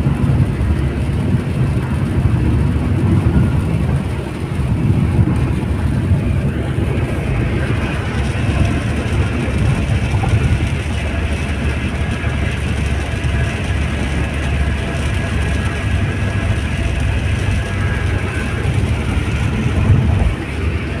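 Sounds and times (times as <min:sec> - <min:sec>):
car engine: 0:00.0 - 0:21.0
tyres rumbling on wet road: 0:00.0 - 0:21.0.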